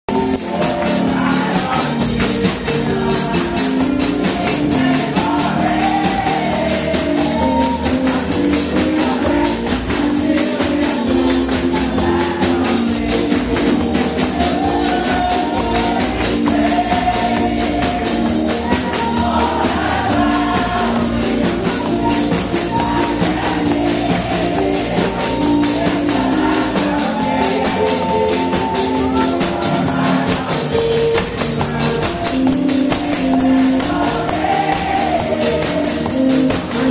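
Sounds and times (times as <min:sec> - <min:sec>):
tambourines shaken and struck: 0:00.1 - 0:36.9
women singing gospel: 0:00.1 - 0:36.9.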